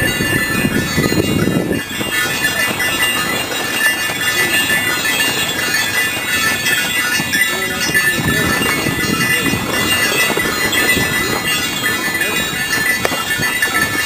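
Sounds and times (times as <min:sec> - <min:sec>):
harness bells jingling: 0:00.0 - 0:14.0
wagon rumbling and rattling: 0:00.0 - 0:14.0.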